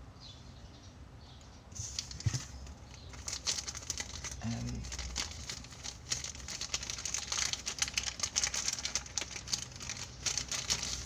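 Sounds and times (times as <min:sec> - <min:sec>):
packaging crinkling: 0:01.9 - 0:11.0.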